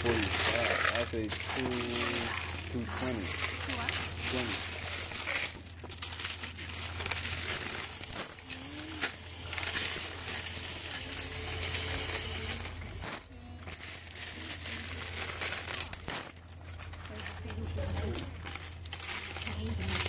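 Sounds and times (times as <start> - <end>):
coins rattling and clinking: 0.0 - 20.0
machine low hum: 0.0 - 20.0.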